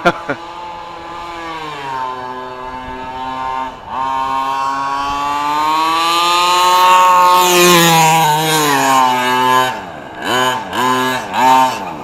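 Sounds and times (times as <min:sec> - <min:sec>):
two-stroke engine at high revs: 0:00.0 - 0:12.0.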